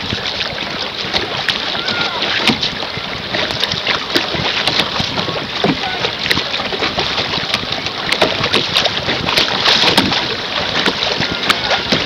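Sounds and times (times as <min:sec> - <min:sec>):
water rushing against canoe: 0:00.0 - 0:12.0
water slapping and splashing: 0:00.0 - 0:12.0.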